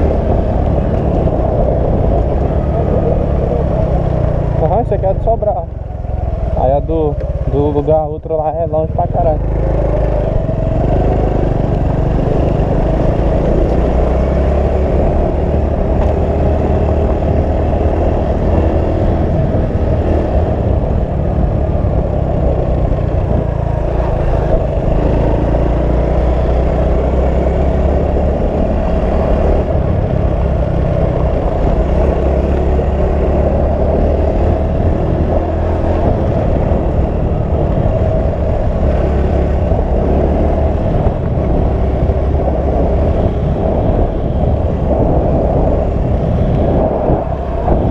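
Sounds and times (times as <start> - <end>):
motorcycle engine: 0.0 - 47.9.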